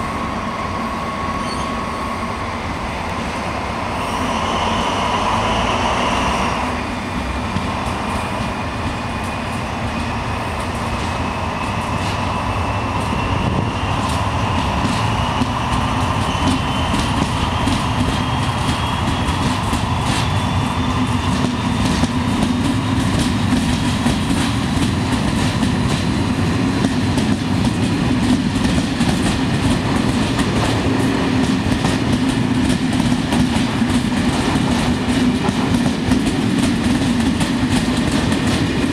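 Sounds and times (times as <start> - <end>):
train wheel squeal: 0.0 - 6.9, 7.5 - 38.9
train rumble: 0.0 - 38.9
train wheels clacking over rail joints: 7.5 - 38.9.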